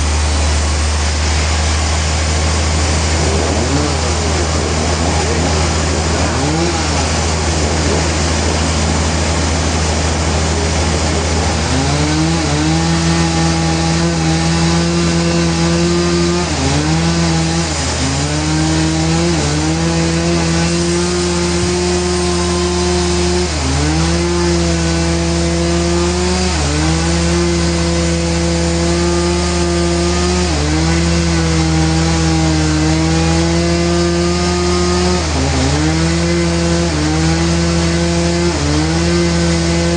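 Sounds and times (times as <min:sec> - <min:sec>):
low machine hum: 0:00.0 - 0:39.9
saw blade whine: 0:00.0 - 0:39.9
saw cutting a log: 0:00.0 - 0:39.9.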